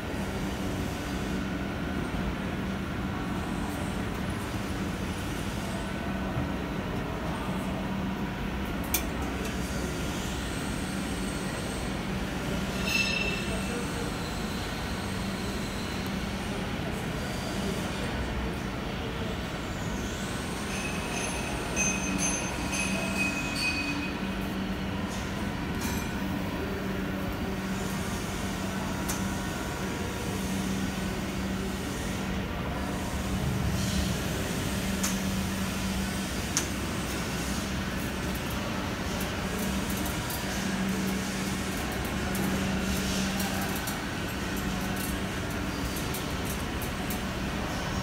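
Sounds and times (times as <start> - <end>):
factory machinery hum: 0.0 - 48.0.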